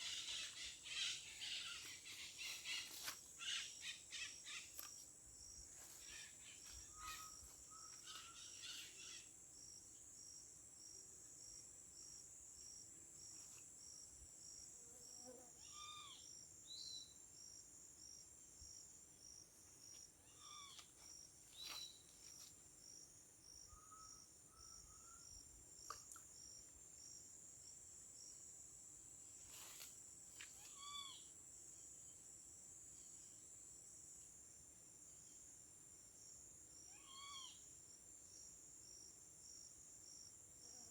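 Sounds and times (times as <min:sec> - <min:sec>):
cricket chirping: 0:00.0 - 0:40.9
insects droning: 0:00.0 - 0:40.9.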